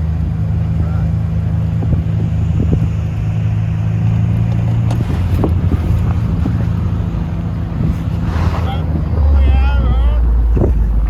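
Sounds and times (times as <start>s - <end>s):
wind noise on microphone: 1.4s - 11.0s.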